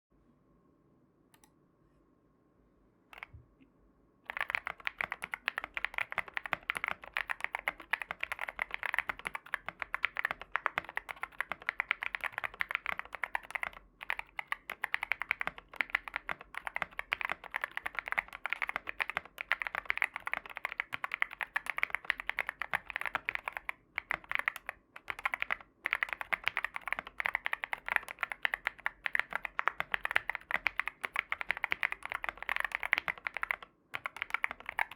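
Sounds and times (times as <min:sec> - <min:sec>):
mechanical keyboard typing: 0:04.3 - 0:34.9.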